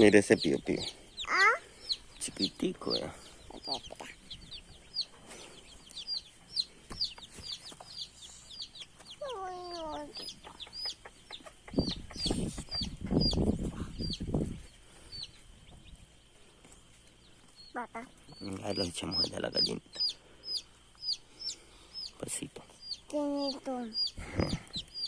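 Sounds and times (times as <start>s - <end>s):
baby chicks peeping: 0.0s - 25.0s.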